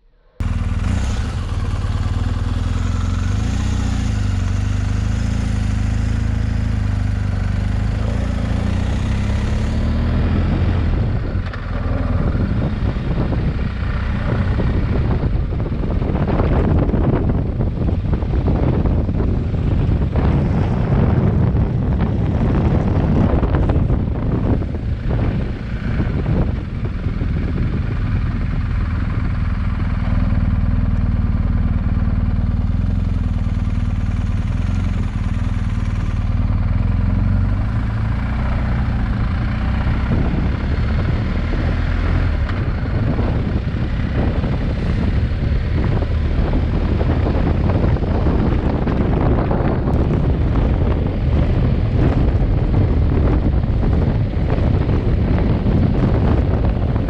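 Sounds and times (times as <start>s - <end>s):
wind rushing over microphone: 0.0s - 57.0s
motorcycle engine running: 0.4s - 57.0s.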